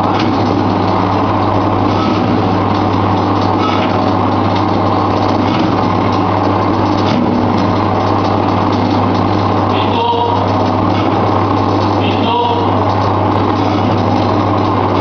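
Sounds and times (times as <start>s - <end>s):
meat shredder motor hum: 0.0s - 15.0s.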